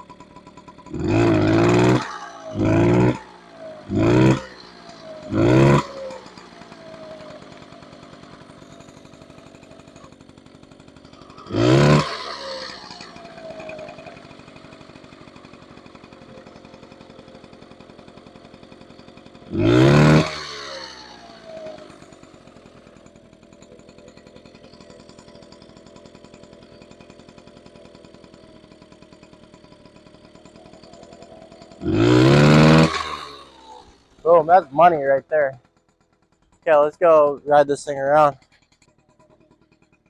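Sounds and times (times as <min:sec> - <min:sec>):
moped engine idling and revving: 0:00.0 - 0:40.0.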